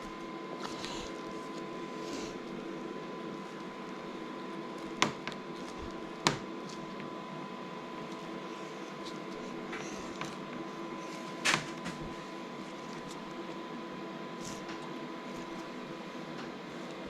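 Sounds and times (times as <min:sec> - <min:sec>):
mechanical hum with high tone: 0:00.0 - 0:17.0.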